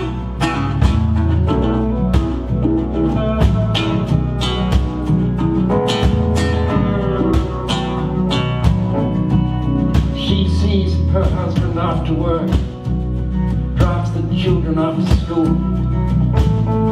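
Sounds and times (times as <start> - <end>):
lap slide guitar: 0.0 - 16.9
live folk band playing: 0.0 - 16.9.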